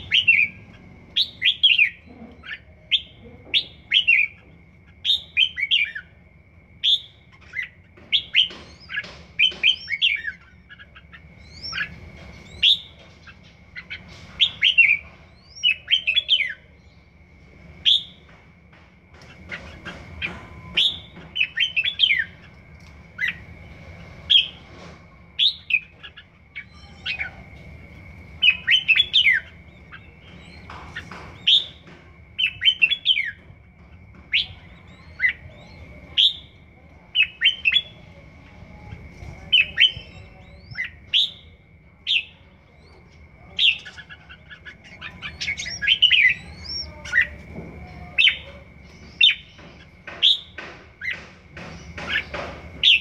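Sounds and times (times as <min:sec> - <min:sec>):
bird singing whistled notes: 0:00.0 - 0:06.2, 0:06.8 - 0:17.2, 0:17.8 - 0:18.3, 0:19.7 - 0:22.5, 0:23.1 - 0:33.5, 0:34.3 - 0:53.0.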